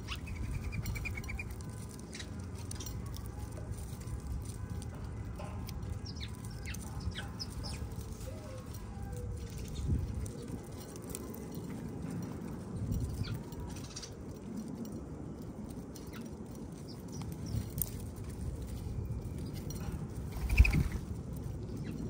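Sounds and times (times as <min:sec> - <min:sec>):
birds pecking and scratching: 0:00.0 - 0:22.0
steady low rumble: 0:00.0 - 0:22.0.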